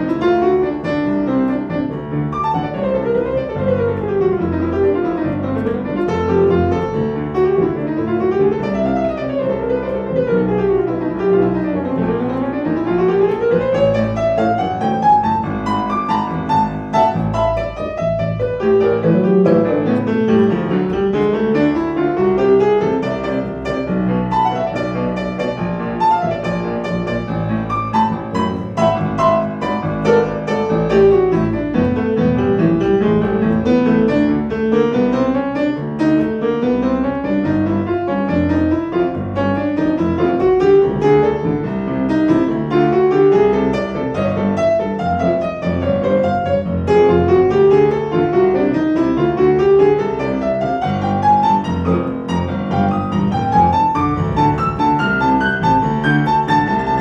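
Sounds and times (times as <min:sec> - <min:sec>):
jazz piano: 0:00.0 - 0:57.0.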